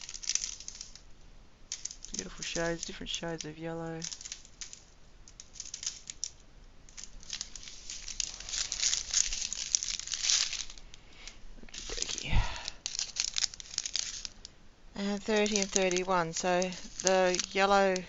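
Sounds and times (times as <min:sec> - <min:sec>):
plastic packets crinkling: 0:00.0 - 0:18.0.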